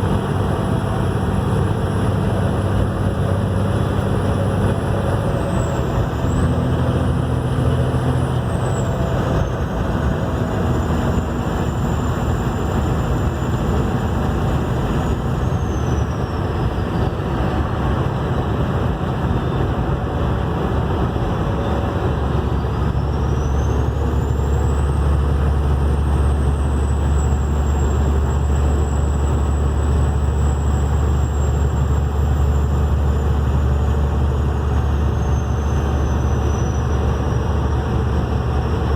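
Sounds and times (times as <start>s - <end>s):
low engine drone: 0.0s - 38.9s.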